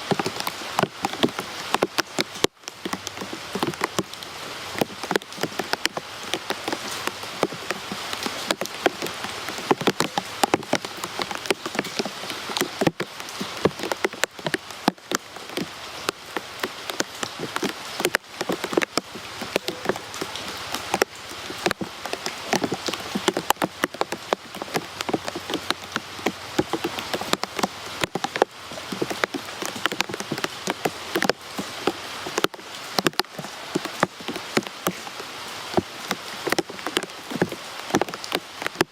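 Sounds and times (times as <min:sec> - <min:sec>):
rain hissing: 0:00.0 - 0:38.9
raindrops striking close by: 0:00.0 - 0:38.9.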